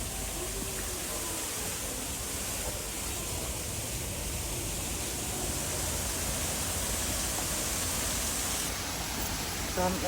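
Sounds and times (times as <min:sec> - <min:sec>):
waterfall rushing water: 0:00.0 - 0:10.0.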